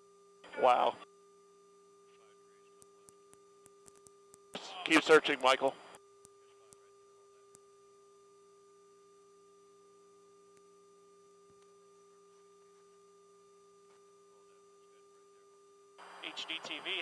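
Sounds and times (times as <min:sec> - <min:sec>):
radio line hum: 0:00.0 - 0:17.0.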